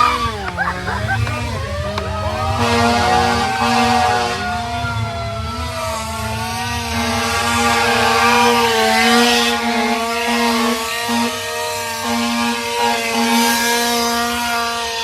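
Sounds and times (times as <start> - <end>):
sirens wailing: 0.0 - 15.0
steady low horn tone: 0.0 - 15.0.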